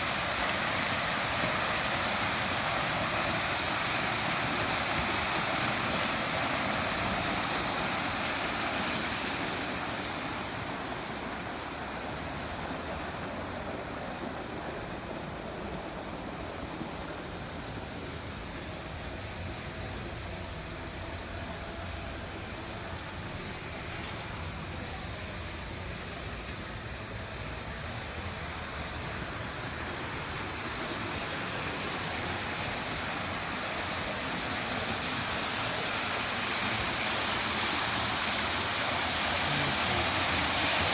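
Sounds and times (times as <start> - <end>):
waterfall pouring and splashing: 0.0 - 40.9.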